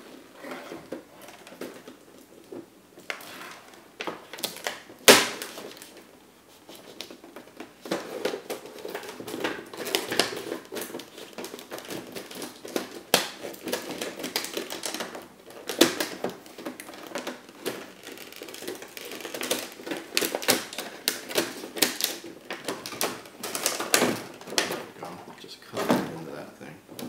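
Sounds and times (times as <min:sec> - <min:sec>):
cardboard and plastic packaging handled: 0:00.0 - 0:27.0.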